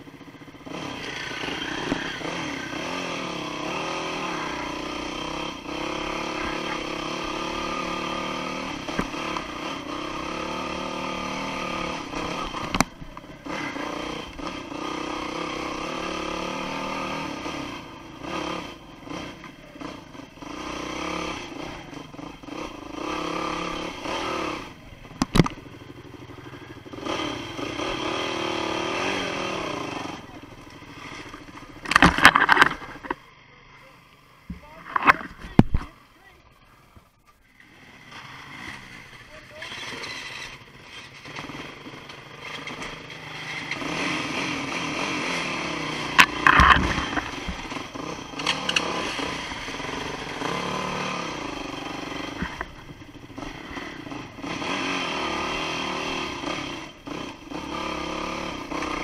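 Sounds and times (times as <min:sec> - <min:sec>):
dirt bike engine revving: 0:00.0 - 0:33.2, 0:37.5 - 0:59.0.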